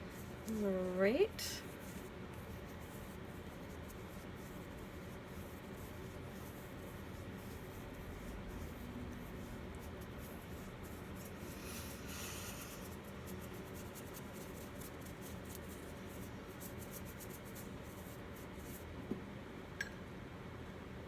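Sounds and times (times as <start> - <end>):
applicator rubbing strokes: 0.0 - 18.8.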